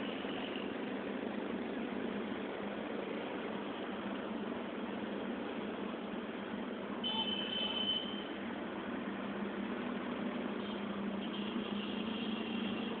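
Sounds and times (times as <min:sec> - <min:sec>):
motorbike traffic hum: 0:00.0 - 0:13.0.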